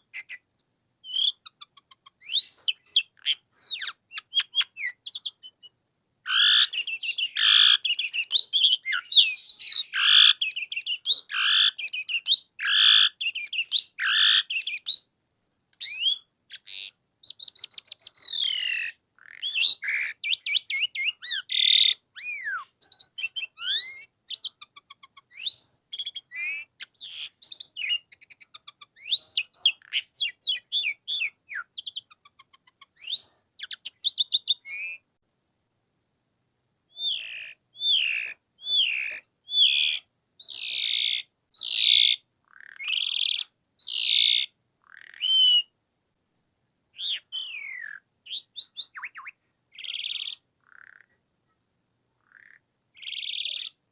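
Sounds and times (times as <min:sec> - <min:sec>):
starling singing: 0:00.0 - 0:15.1, 0:15.8 - 0:35.1, 0:36.9 - 0:45.7, 0:47.0 - 0:51.6, 0:52.2 - 0:53.8.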